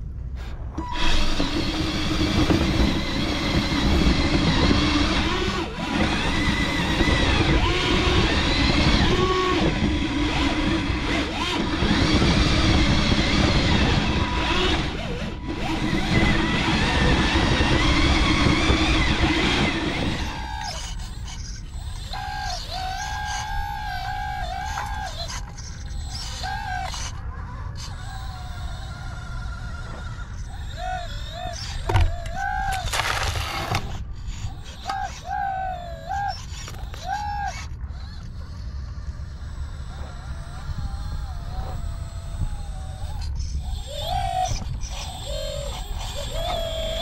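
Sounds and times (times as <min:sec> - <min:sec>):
small electric motors whining: 0:00.0 - 0:47.0.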